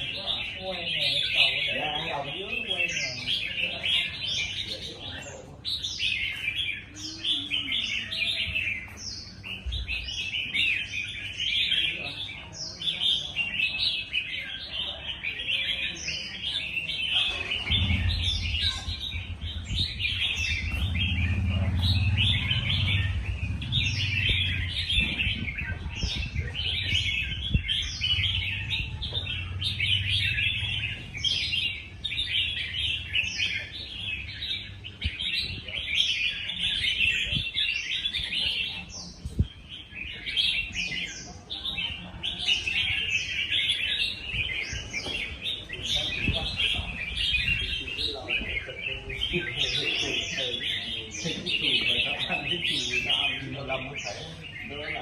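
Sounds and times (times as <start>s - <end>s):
bird singing bright phrases: 0.0s - 55.0s.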